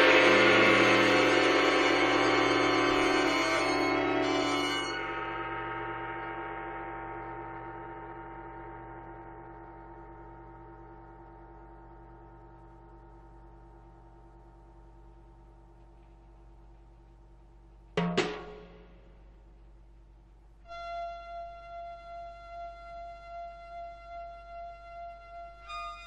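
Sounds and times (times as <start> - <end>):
mains hum: 0.0 - 26.0.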